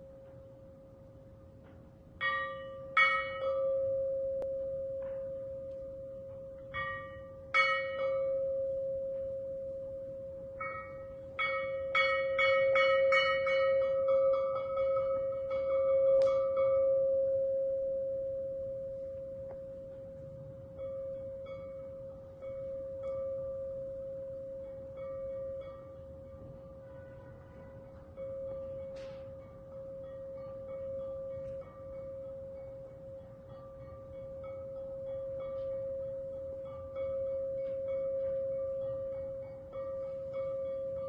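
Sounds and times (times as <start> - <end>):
singing bowl tone: 2.2 - 41.0
struck bell-like notes: 2.2 - 41.0.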